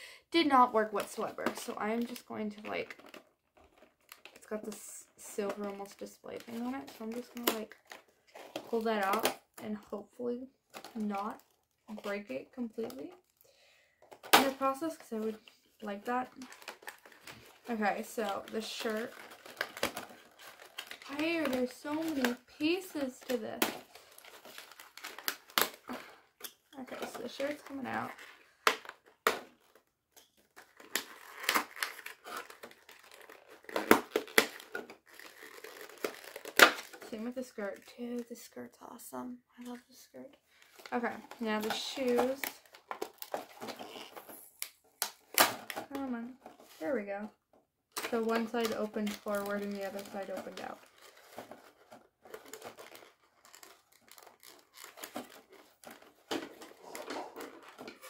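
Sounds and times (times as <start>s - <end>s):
packaging crinkling and crackling: 1.0s - 9.6s, 10.6s - 38.7s, 40.4s - 47.0s, 47.9s - 58.0s.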